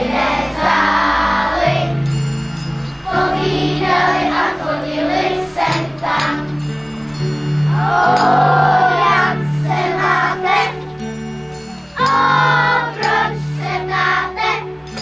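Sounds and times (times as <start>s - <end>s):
children's choir singing: 0.0s - 2.2s, 2.8s - 11.2s, 11.9s - 15.0s
instrumental accompaniment held notes: 0.0s - 15.0s.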